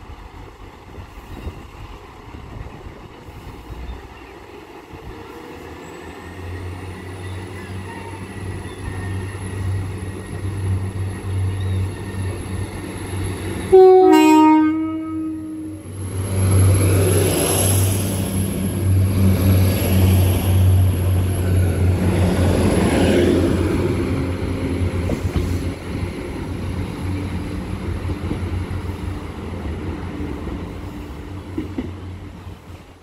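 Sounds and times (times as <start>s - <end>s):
train wheel rumble: 0.0s - 33.0s.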